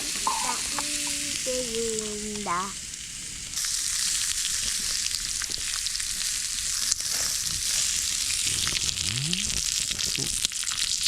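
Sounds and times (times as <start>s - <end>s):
steak sizzling and crackling: 0.0s - 11.0s.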